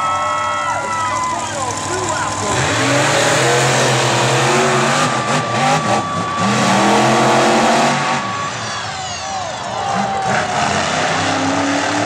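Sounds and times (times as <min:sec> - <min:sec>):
monster truck engines revving: 0:00.0 - 0:12.0.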